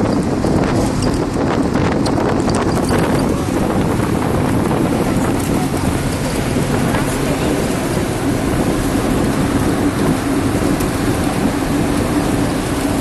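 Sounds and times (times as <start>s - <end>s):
low rumble of travel: 0.0s - 13.0s
wind buffeting microphone: 0.0s - 13.0s.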